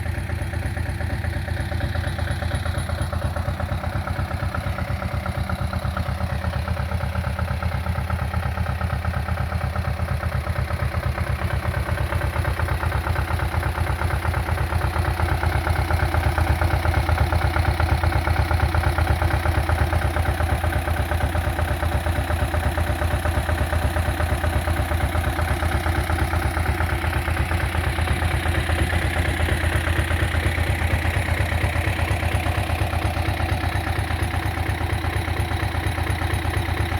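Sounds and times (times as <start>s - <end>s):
tractor engine idling: 0.0s - 36.9s.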